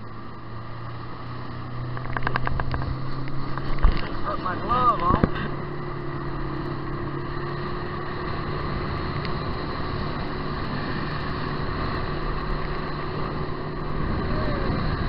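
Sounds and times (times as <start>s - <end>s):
boat motor humming: 0.0s - 15.0s
rushing water noise: 0.1s - 15.0s.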